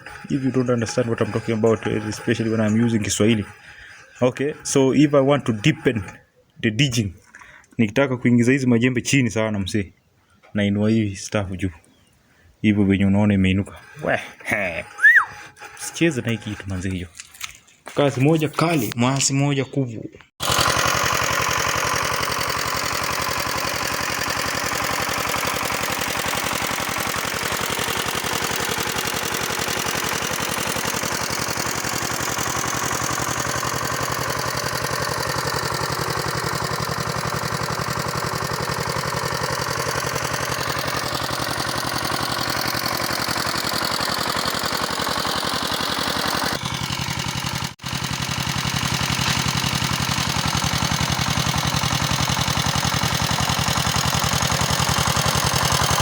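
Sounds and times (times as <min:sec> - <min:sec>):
tractor engine running under load: 0:00.0 - 0:06.2, 0:13.5 - 0:17.3, 0:20.4 - 0:56.0.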